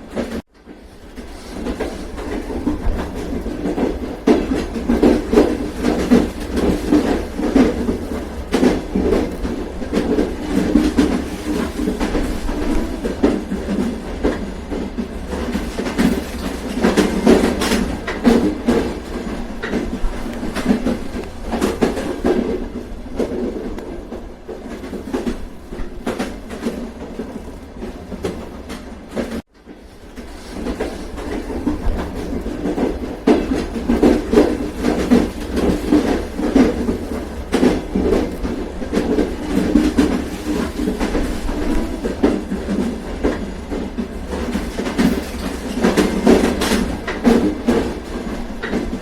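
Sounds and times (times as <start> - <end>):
train rumbling on rails: 0.0 - 49.0
wheels clacking over rail joints: 0.0 - 49.0.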